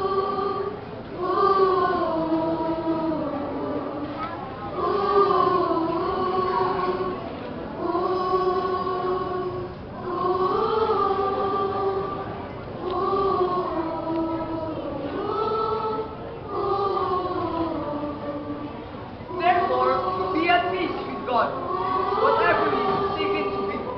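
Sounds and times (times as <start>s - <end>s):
choir of young voices singing: 0.0s - 23.9s.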